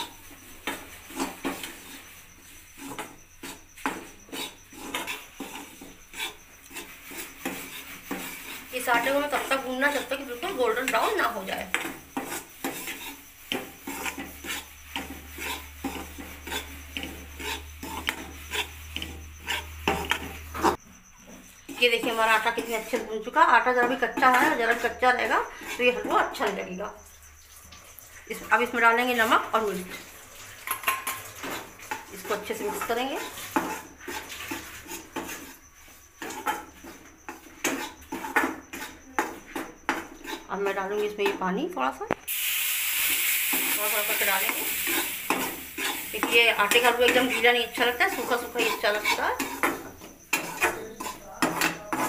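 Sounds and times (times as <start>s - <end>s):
metal spatula scraping in a pan: 0.0s - 41.7s, 42.3s - 52.0s.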